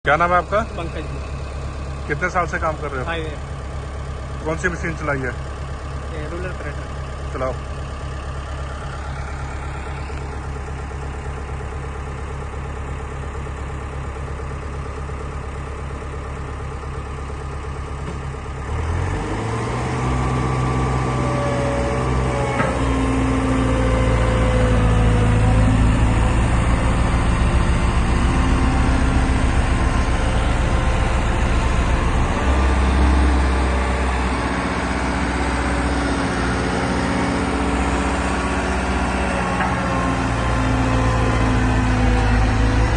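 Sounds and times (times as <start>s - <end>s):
road roller diesel engine: 0.0s - 42.9s.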